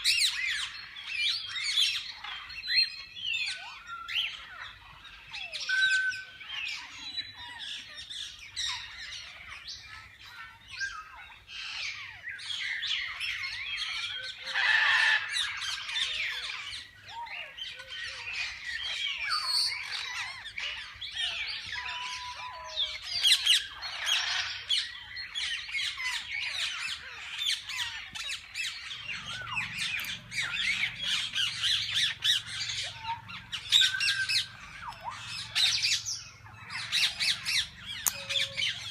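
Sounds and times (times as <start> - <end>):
parakeets chattering and squawking: 0.0 - 38.9.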